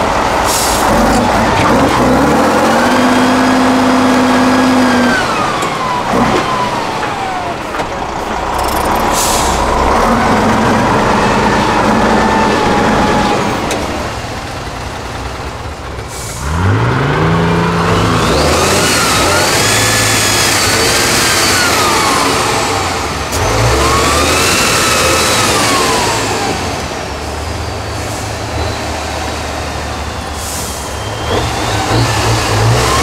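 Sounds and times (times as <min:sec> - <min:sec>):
truck diesel engine labouring: 0:00.0 - 0:33.0.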